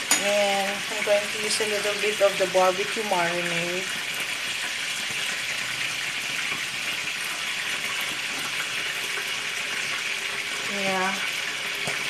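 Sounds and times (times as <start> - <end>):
pot of food hissing: 0.0 - 12.0.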